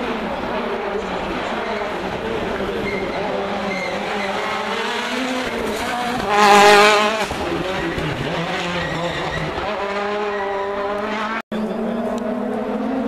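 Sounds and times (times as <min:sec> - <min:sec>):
rally car engine passing at speed: 0:00.0 - 0:13.0.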